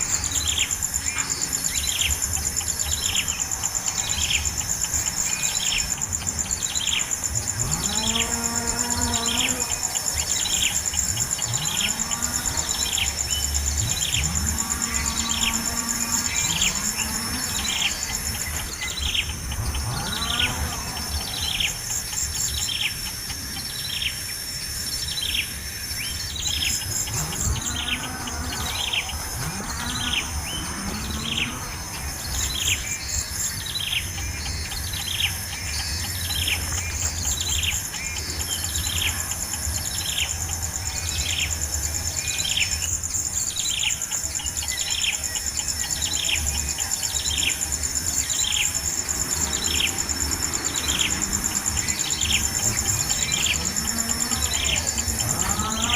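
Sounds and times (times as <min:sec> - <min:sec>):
insect trilling: 0:00.0 - 0:55.9.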